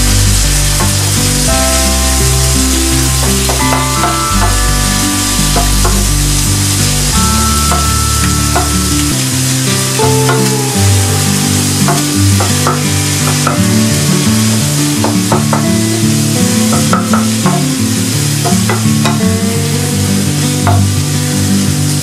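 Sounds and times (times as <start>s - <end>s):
background music with low notes: 0.0s - 22.0s
food sizzling in a frying pan: 0.0s - 22.0s.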